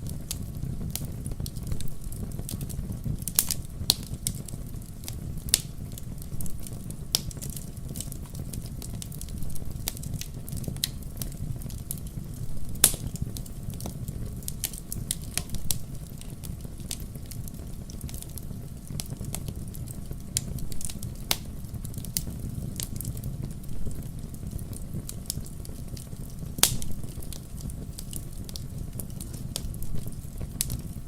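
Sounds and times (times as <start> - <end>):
fireplace fire crackling: 0.0 - 31.0.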